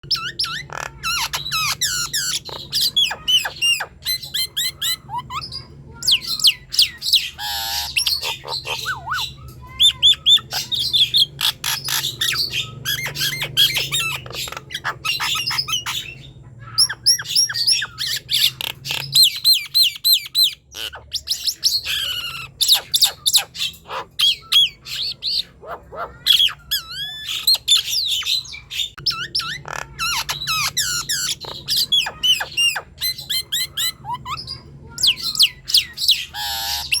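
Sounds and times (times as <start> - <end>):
myna whistling and squawking: 0.0 - 37.0.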